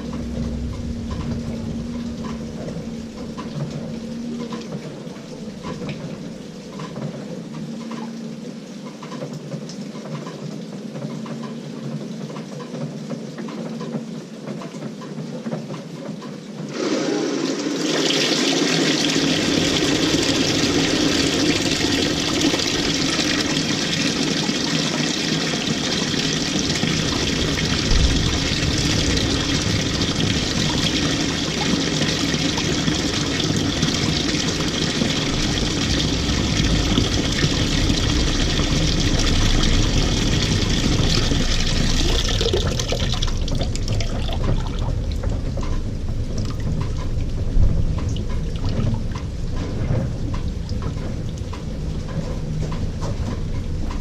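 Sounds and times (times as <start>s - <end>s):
water pouring into washing machine: 0.0s - 8.3s, 16.6s - 54.0s.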